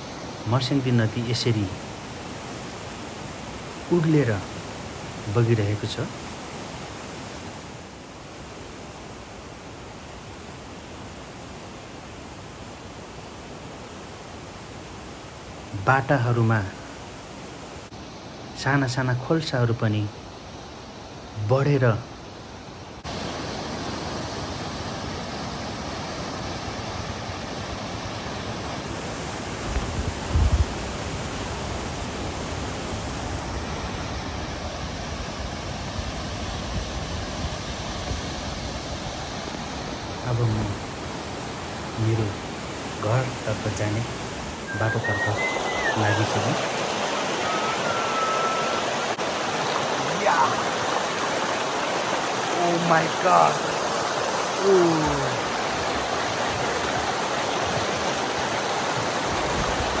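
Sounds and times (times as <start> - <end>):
stream rushing: 0.0 - 60.0.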